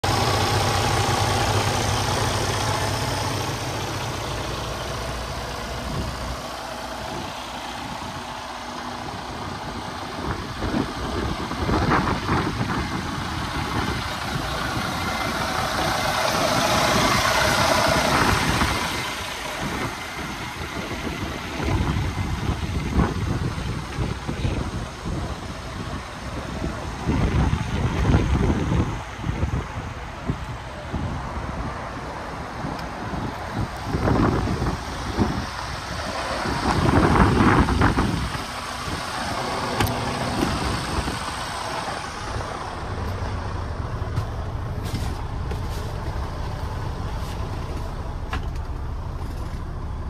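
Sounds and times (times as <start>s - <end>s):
diesel truck engine idling: 0.0s - 50.0s.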